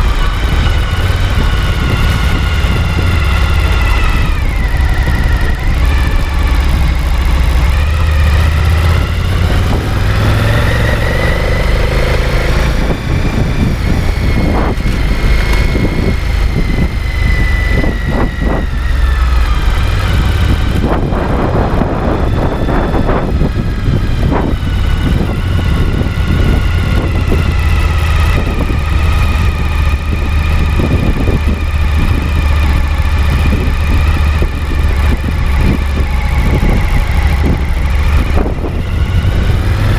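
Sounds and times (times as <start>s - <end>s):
motorcycle engine low rumble: 0.0s - 39.9s.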